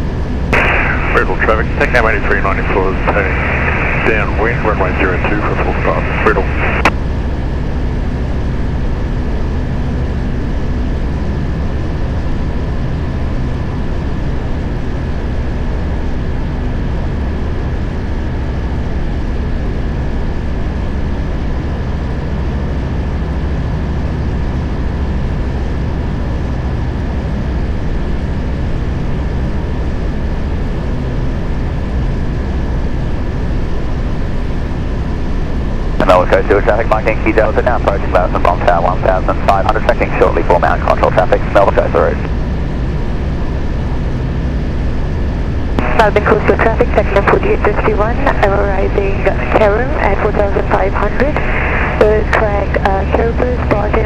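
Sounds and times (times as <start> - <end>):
light aircraft engine and propeller: 0.0 - 46.6
faint high whine: 0.0 - 54.0.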